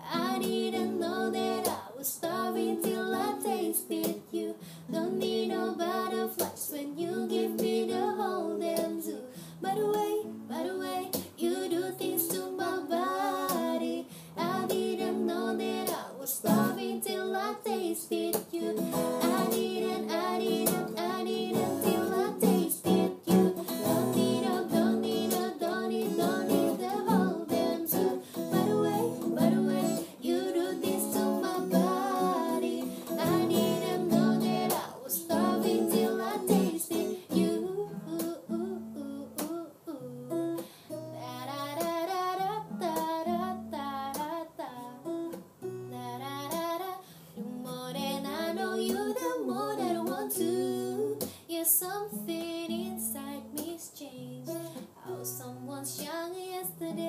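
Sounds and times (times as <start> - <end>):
strummed acoustic guitar: 0.0 - 17.5, 18.2 - 51.4
woman singing a pop ballad: 0.0 - 57.0.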